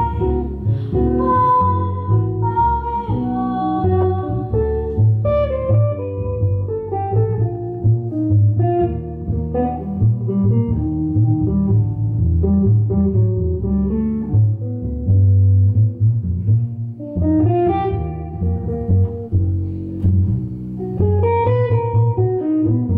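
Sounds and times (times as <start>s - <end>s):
double bass walking line: 0.0s - 22.9s
electric guitar picking melody: 0.0s - 22.9s.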